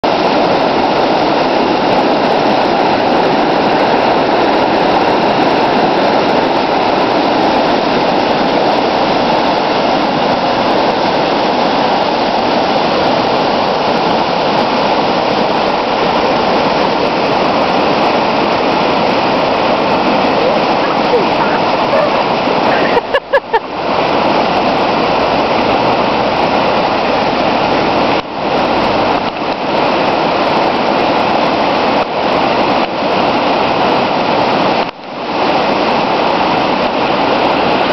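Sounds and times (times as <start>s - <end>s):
floodwater rushing: 0.0s - 37.9s.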